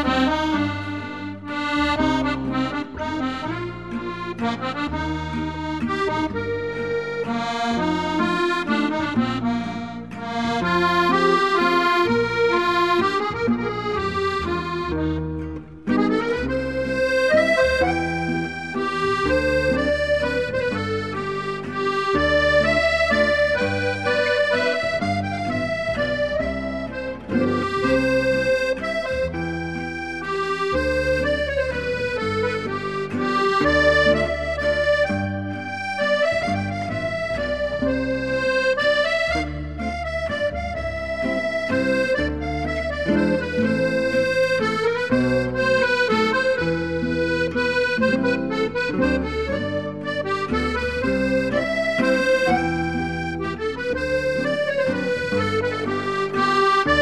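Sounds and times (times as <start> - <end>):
accordion music: 0.0 - 57.0.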